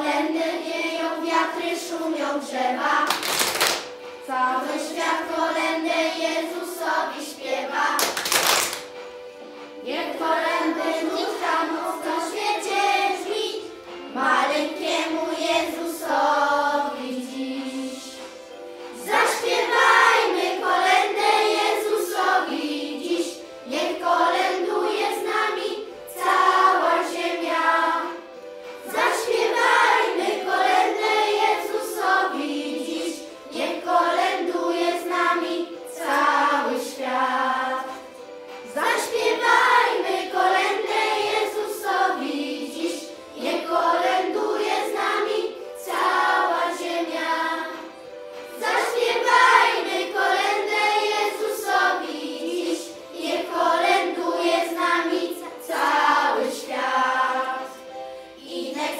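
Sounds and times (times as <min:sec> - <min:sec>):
children's choir singing: 0:00.0 - 0:58.9.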